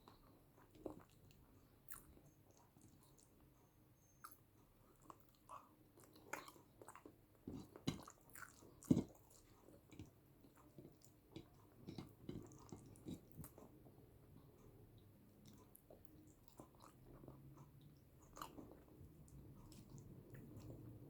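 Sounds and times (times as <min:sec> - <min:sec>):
close-miked chewing: 0:00.0 - 0:21.0.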